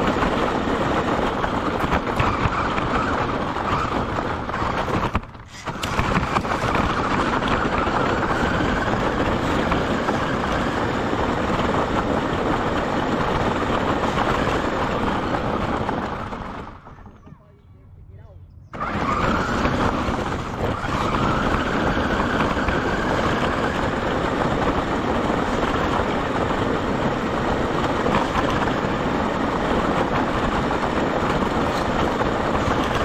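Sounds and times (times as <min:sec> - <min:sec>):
gravel crunching under tyres: 0:00.0 - 0:17.3, 0:18.8 - 0:33.0
wind on microphone: 0:00.0 - 0:33.0.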